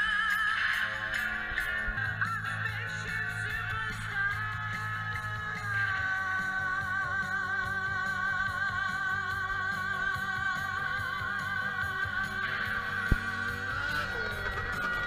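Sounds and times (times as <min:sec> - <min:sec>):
instrumental backing music: 0:00.0 - 0:15.0.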